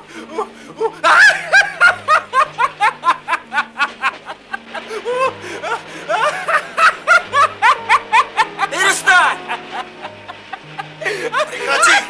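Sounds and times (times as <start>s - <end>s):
man laughing: 0.3s - 12.0s.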